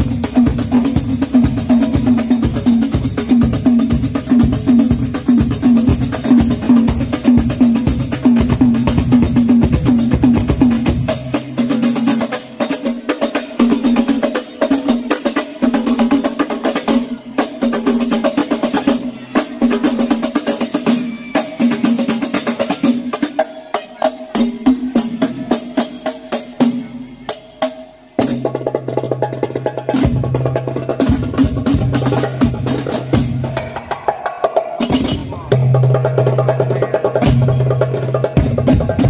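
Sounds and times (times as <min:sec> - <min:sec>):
frame drums playing fast rhythm: 0:00.0 - 0:39.0.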